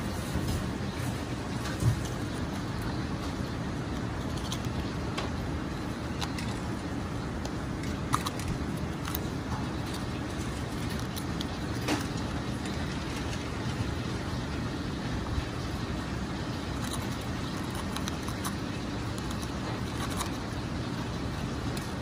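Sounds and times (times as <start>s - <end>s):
kitchen background rumble: 0.0s - 22.0s.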